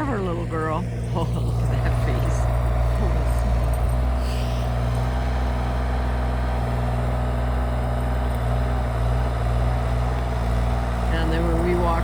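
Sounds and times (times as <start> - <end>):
diesel excavator engine droning: 0.0 - 12.0.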